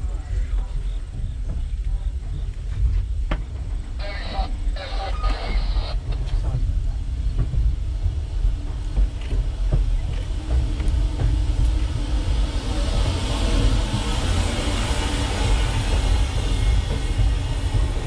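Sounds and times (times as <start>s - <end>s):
steam locomotive hiss: 0.0s - 18.0s
train low rumble: 0.0s - 18.0s.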